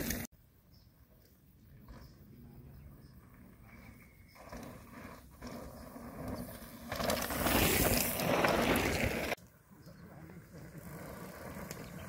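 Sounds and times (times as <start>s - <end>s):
bicycle tyres rolling on gravel: 0.0s - 0.3s, 1.7s - 12.0s.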